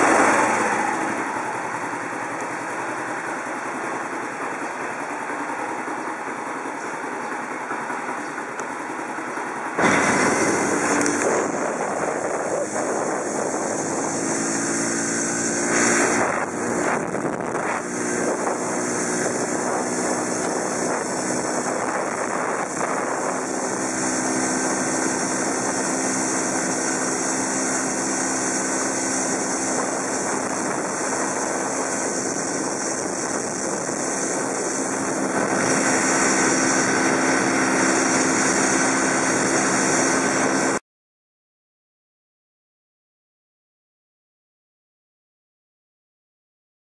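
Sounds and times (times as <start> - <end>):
motorcycle engine running: 0.0 - 40.8
wind and road noise: 0.0 - 40.8.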